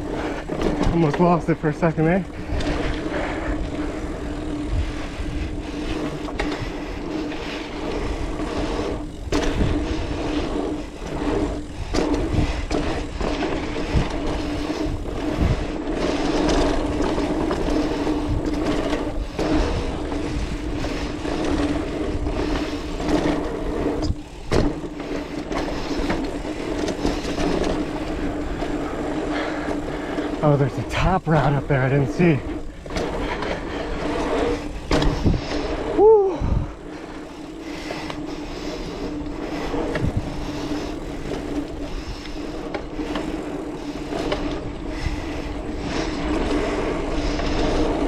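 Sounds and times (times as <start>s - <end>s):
bike rattling over bumps: 0.0s - 48.0s
bike tyres rolling over dirt: 0.0s - 48.0s.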